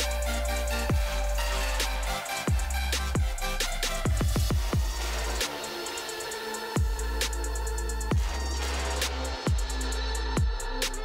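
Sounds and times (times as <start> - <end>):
hi-hat ticks: 0.0 - 11.0.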